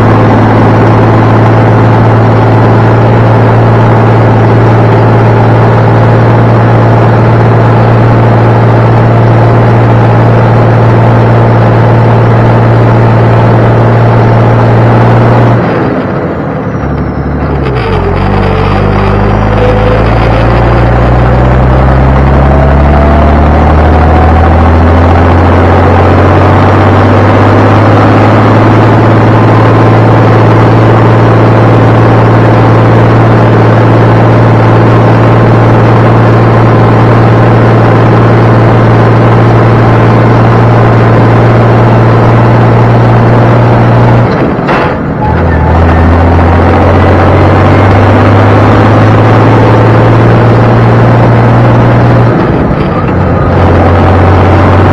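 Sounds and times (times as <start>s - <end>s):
diesel truck engine: 0.0s - 54.9s.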